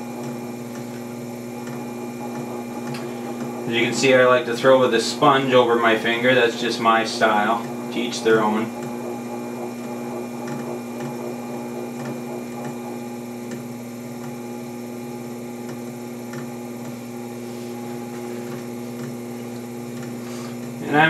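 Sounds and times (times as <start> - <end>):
potter's wheel humming: 0.0 - 21.0.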